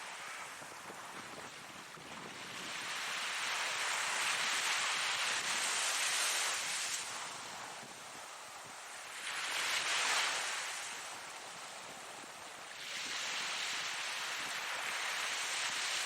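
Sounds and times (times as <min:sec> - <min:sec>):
ocean surf wave: 0:00.0 - 0:16.0.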